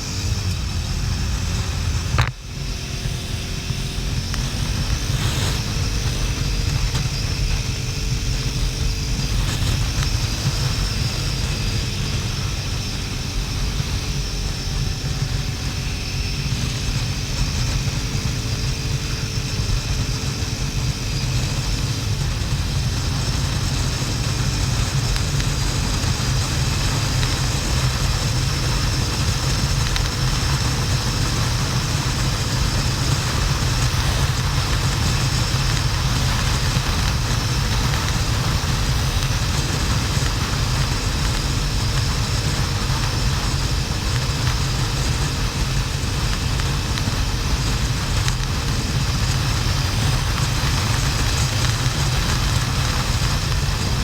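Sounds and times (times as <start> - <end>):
motorcycle engine hum: 0.0 - 54.0.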